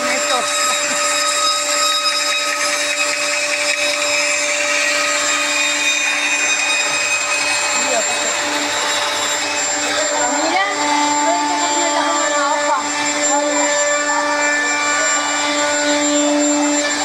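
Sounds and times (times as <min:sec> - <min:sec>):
band saw cutting wood: 0:00.0 - 0:17.0
dust extractor rushing: 0:00.0 - 0:17.0.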